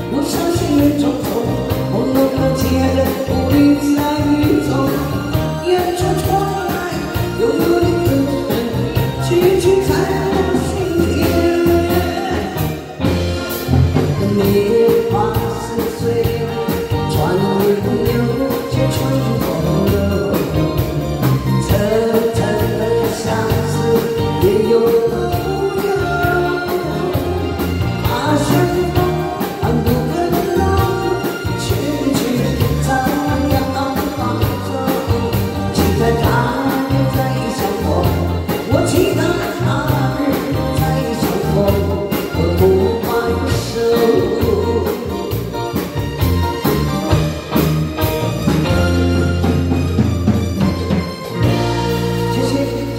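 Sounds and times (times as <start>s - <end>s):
woman singing a ballad: 0.0s - 47.5s, 51.5s - 52.9s
live band playing: 0.0s - 52.9s.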